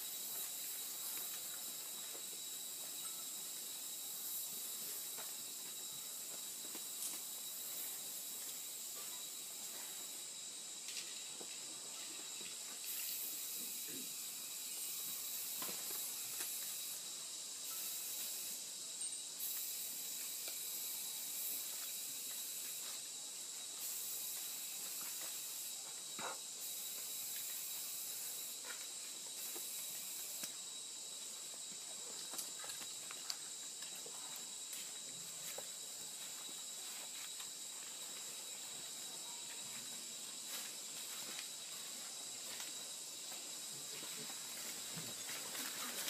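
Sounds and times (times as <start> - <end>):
insect chorus: 0.0 - 46.0.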